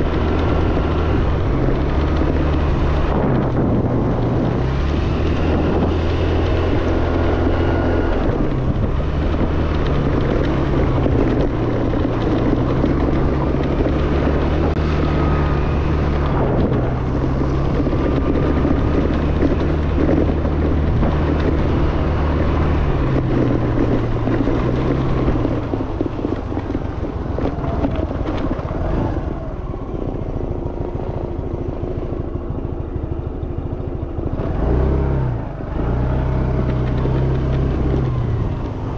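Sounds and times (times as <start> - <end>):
wind noise on microphone: 0.0 - 31.1, 34.3 - 38.9
scooter engine running: 0.0 - 38.9.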